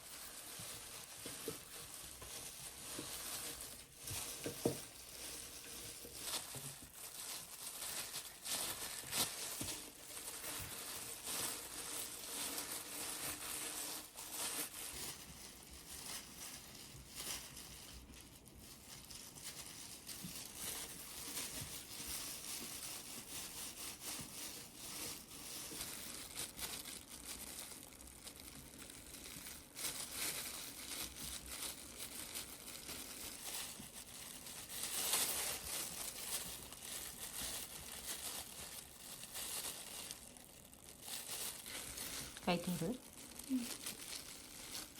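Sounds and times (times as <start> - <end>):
paper rustling and crinkling: 0.0 - 44.9.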